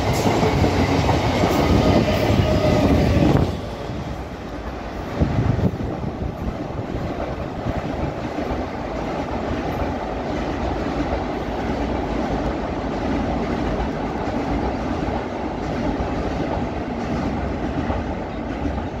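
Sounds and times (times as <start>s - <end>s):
train crossing a steel bridge: 0.0s - 19.0s.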